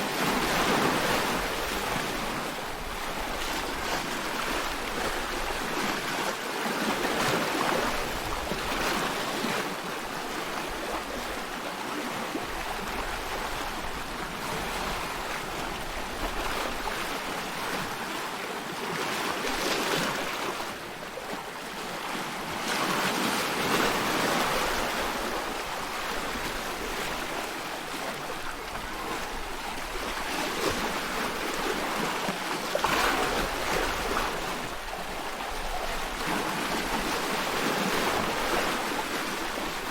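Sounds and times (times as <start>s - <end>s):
ocean surf: 0.0s - 39.9s.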